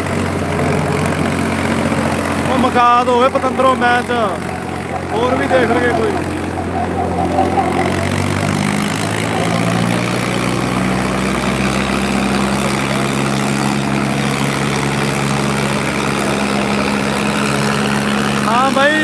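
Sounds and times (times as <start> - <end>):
tractor engines under heavy load: 0.0 - 19.0.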